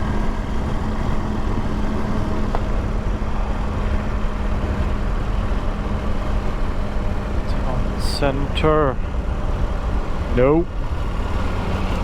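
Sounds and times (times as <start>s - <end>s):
motorcycle engine humming: 0.0s - 12.0s
wind and road noise: 0.0s - 12.0s.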